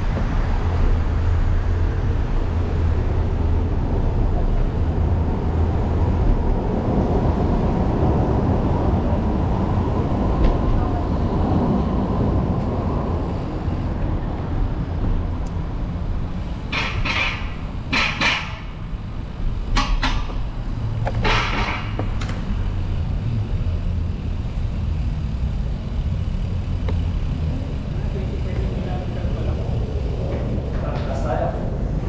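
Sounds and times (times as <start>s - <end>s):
road traffic rumble: 0.0s - 32.0s
wind: 0.0s - 32.0s.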